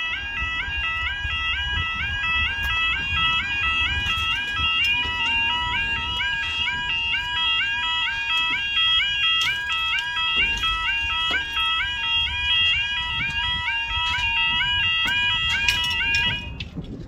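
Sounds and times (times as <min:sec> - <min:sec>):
level crossing alarm warbling: 0:00.0 - 0:16.6
wind rumbling on microphone: 0:00.0 - 0:17.0.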